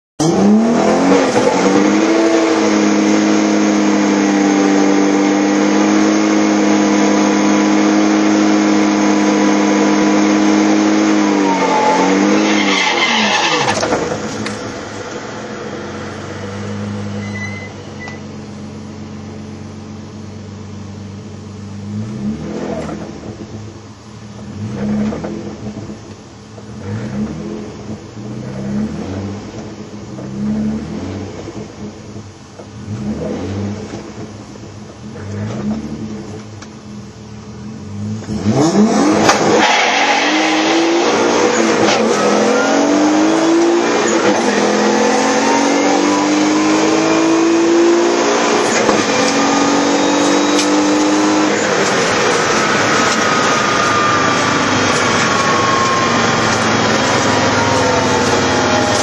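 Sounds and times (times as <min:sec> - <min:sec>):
car engine revving: 0:00.2 - 0:59.0.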